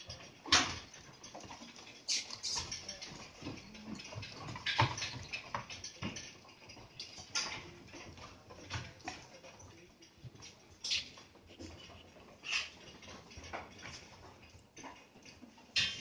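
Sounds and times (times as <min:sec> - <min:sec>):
goat hooves on slatted floor: 0:00.0 - 0:16.0.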